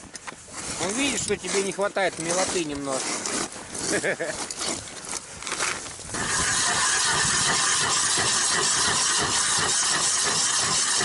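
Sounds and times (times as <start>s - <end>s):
ice auger boring through ice: 0.5s - 11.0s.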